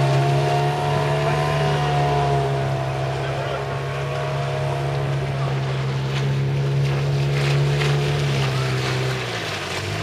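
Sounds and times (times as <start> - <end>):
outboard motor drone: 0.0 - 10.0.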